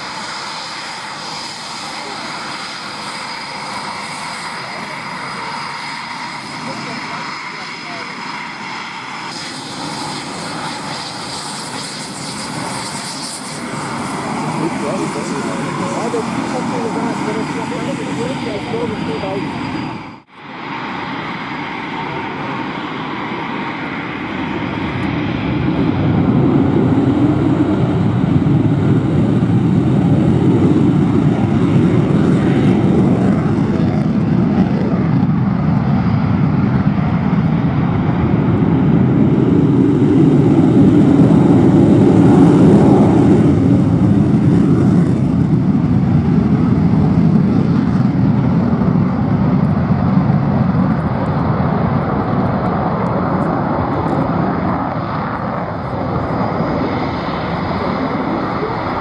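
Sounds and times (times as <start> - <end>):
jet engines at take-off power: 0.0 - 59.0.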